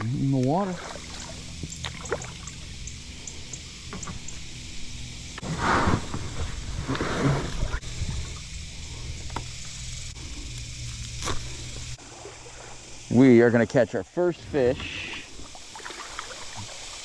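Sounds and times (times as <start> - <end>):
water splashing around kayak: 0.0 - 2.9, 5.4 - 9.8, 10.7 - 17.0.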